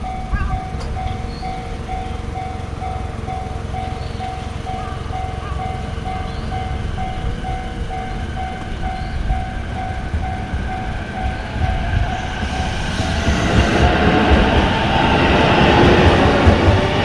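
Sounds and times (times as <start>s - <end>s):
electric train rumble: 0.0s - 17.0s
level-crossing warning bell: 0.0s - 17.0s.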